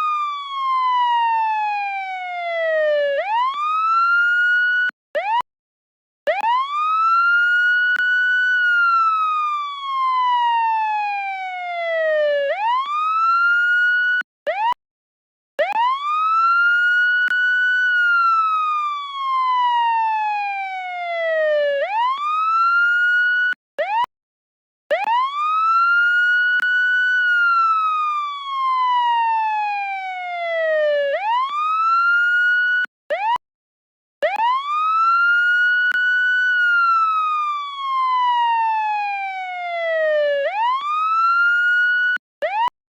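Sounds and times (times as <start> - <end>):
police siren wailing: 0.0 - 5.4, 6.3 - 14.8, 15.6 - 24.1, 24.9 - 33.4, 34.2 - 42.7.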